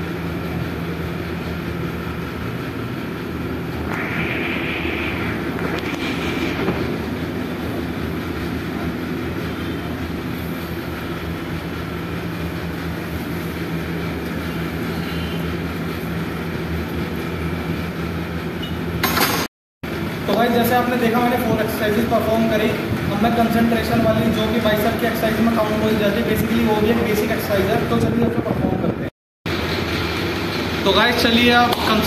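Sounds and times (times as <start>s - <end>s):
mechanical drone with low hum: 0.0s - 32.0s.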